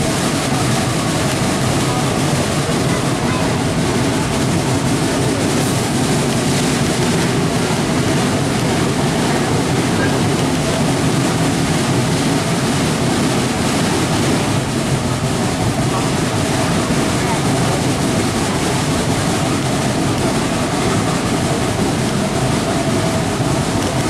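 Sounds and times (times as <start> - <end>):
rushing air: 0.0 - 24.0
train wheels on rails: 0.0 - 24.0.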